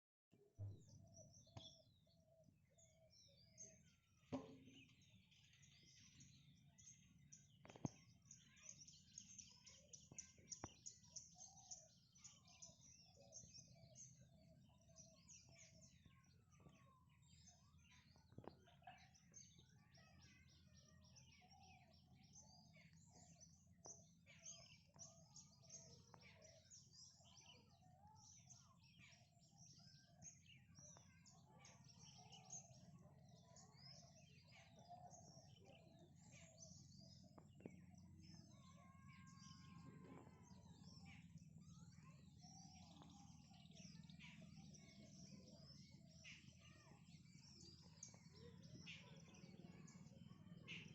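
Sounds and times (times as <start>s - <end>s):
small birds chirping: 0.6s - 50.9s.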